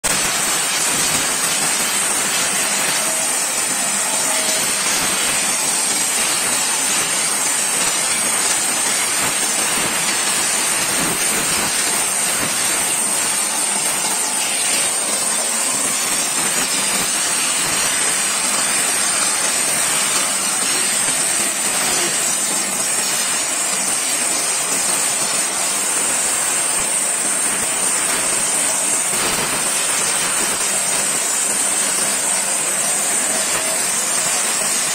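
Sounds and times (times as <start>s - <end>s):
gas torch hissing: 0.1s - 34.9s.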